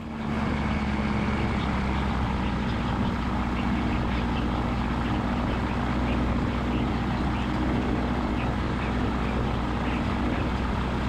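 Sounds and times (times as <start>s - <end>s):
piston engine droning: 0.0s - 11.0s.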